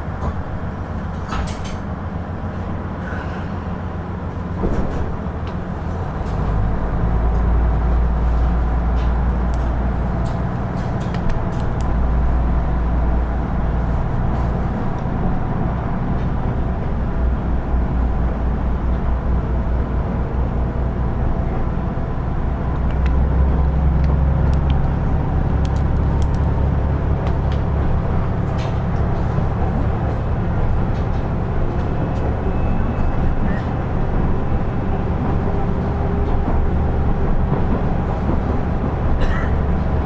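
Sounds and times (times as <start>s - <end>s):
diesel railcar drone: 0.0s - 40.0s.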